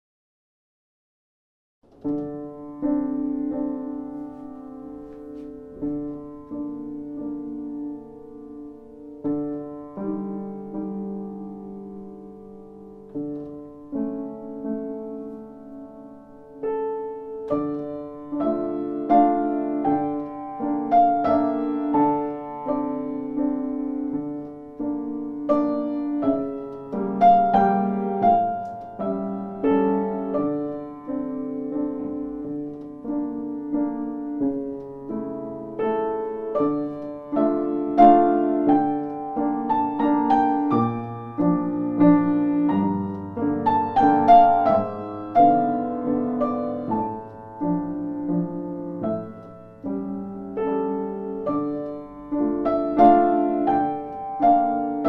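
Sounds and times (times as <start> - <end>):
piano music: 1.9 - 55.0.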